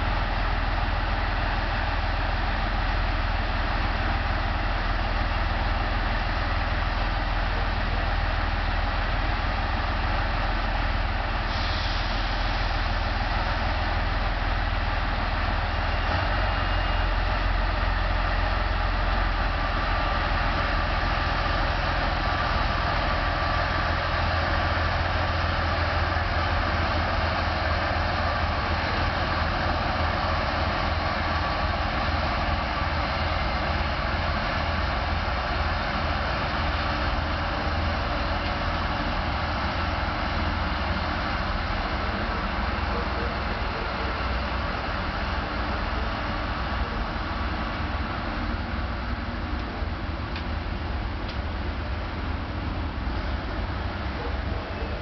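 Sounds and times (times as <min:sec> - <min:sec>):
diesel train engine idling: 0:00.0 - 0:55.0.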